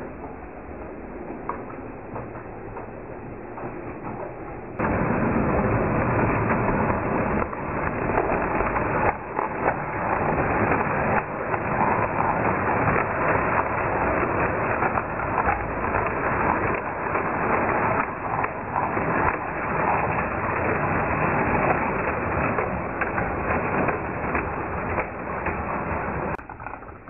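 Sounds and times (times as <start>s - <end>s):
model train wheels rattling on track: 0.2s - 27.0s.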